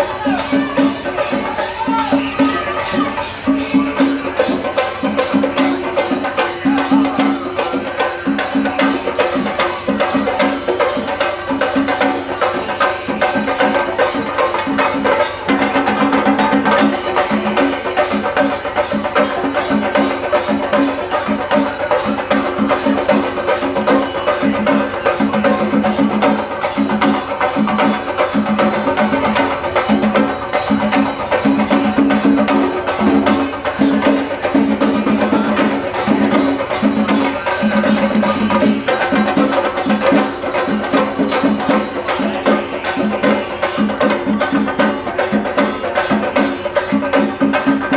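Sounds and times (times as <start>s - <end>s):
fast rhythmic drum music: 0.0s - 47.9s.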